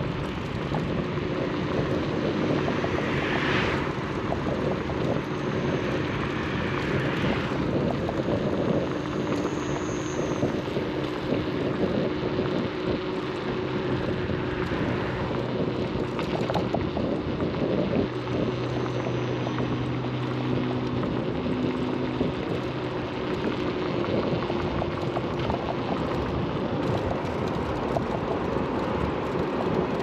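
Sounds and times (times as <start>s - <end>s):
road noise: 0.0s - 30.0s
wind rushing over microphone: 0.0s - 30.0s.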